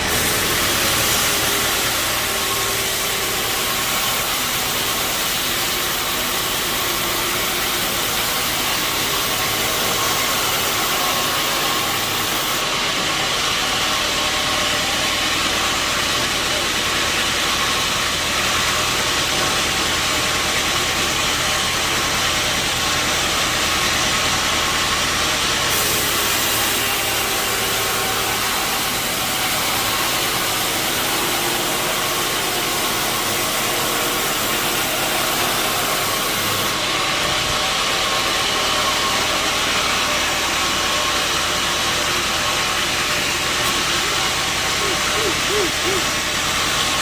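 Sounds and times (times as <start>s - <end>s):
sawmill machinery drone: 0.0s - 47.0s.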